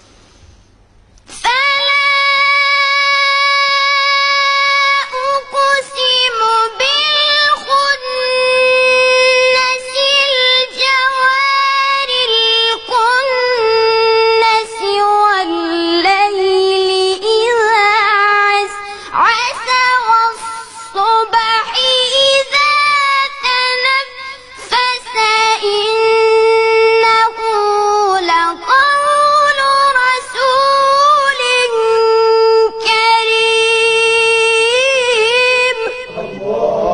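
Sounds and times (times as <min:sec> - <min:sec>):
child chanting melodic recitation: 0:01.5 - 0:36.9.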